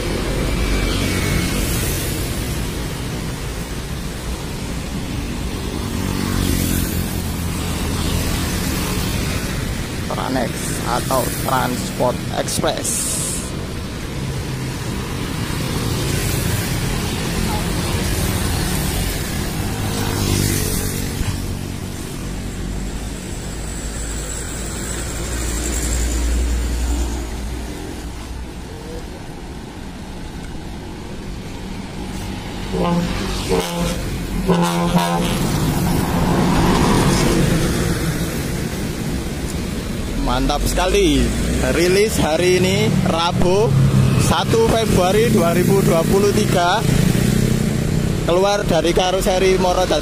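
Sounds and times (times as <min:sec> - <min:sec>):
motorcycles passing: 0:00.0 - 0:50.0
traffic engine rumble: 0:00.0 - 0:50.0.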